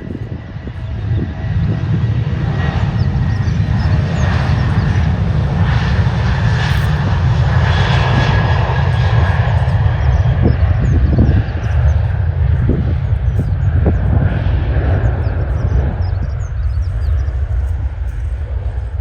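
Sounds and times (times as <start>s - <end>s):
jet engines deep rumble: 0.0s - 19.0s.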